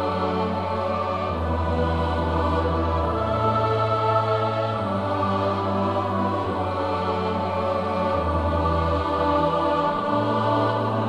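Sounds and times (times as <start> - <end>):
choir-like voices: 0.0 - 11.0
slow sustained chords: 0.0 - 11.0.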